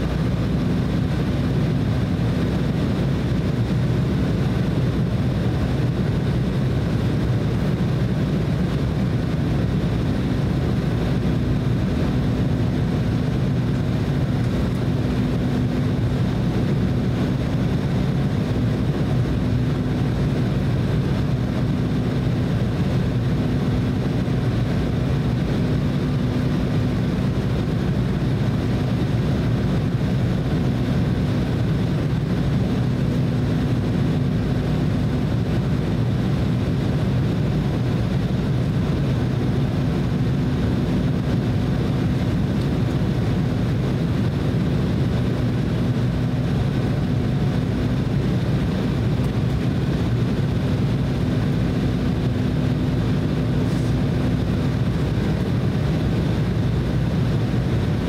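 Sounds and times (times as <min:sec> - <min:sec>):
airliner cabin rumble: 0:00.0 - 0:58.0
faint steady hum: 0:00.0 - 0:58.0.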